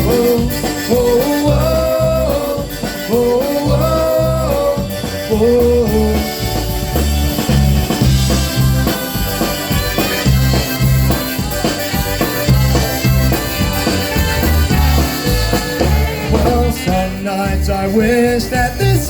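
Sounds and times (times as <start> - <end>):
polka brass band playing: 0.0 - 19.0.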